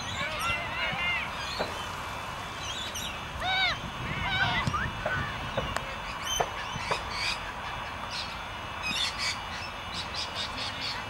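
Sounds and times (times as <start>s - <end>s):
birds chirping and squawking: 0.0s - 11.0s
low outdoor background noise: 0.0s - 11.0s.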